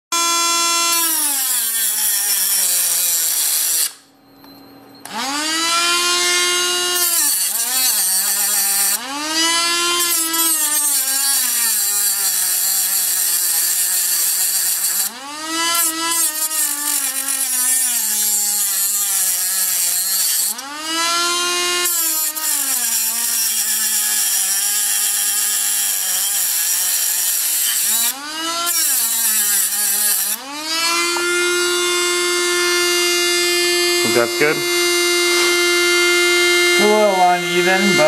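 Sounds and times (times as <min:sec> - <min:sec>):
rotary tool cutting metal: 0:00.2 - 0:04.1, 0:05.1 - 0:38.0.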